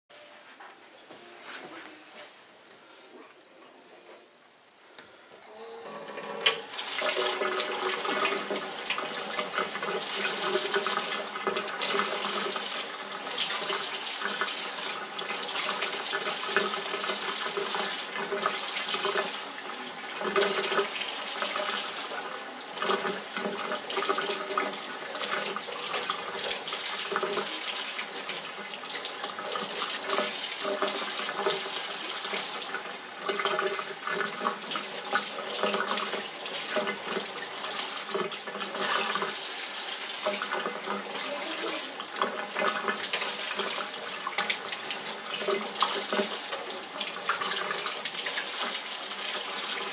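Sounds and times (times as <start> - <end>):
faucet running into steel sink: 5.8 - 49.9.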